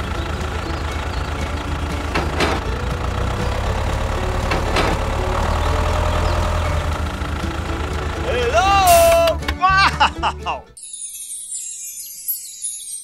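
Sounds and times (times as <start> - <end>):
tractor engine rumble: 0.0 - 10.6.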